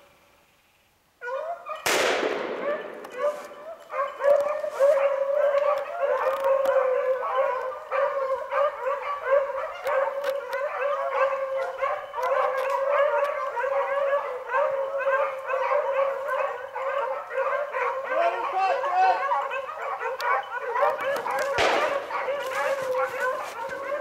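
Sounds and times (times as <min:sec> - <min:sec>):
hounds baying: 0:01.2 - 0:24.0.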